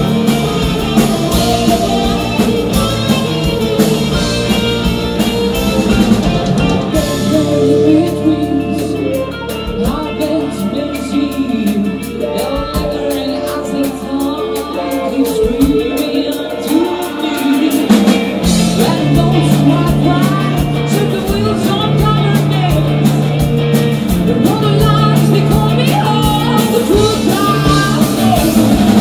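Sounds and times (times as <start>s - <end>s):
woman singing: 0.0s - 5.6s, 6.6s - 29.0s
live hard rock band: 0.0s - 29.0s.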